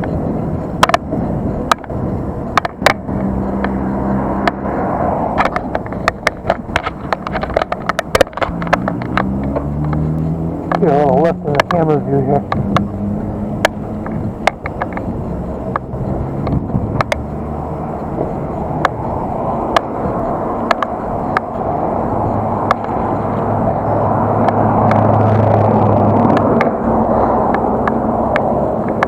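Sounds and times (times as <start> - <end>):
low hum: 0.0 - 29.0
sharp clicks and rattles: 0.0 - 29.0
wind and road rush: 0.0 - 29.0.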